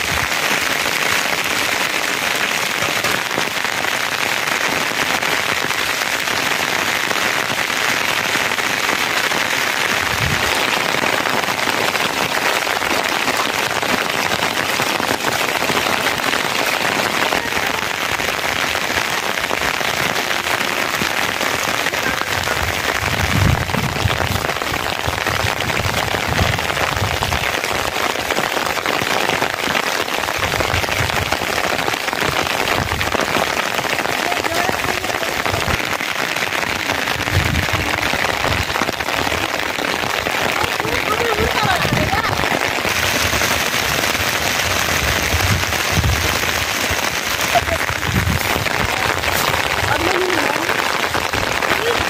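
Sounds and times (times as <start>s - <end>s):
steady rain: 0.0s - 52.0s.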